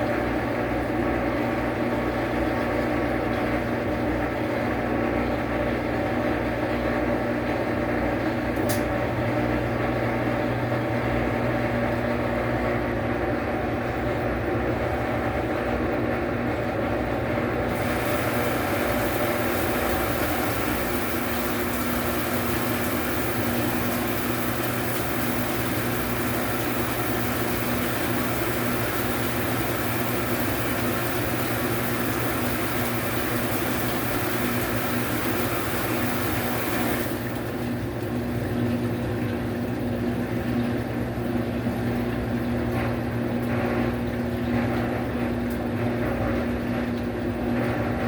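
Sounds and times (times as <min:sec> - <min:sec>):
washing machine humming: 0:00.0 - 0:48.0.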